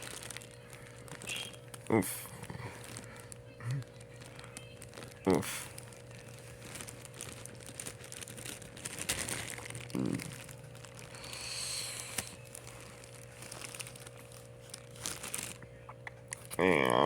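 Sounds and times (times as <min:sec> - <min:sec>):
packaging crinkling and rustling: 0:00.0 - 0:16.6.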